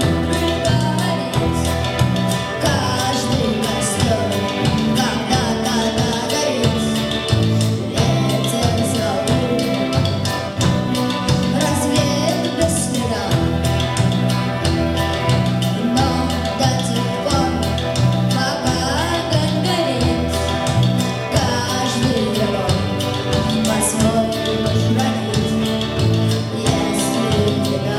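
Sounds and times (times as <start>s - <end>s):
band music: 0.0s - 27.9s
repeating bass line: 0.0s - 27.9s.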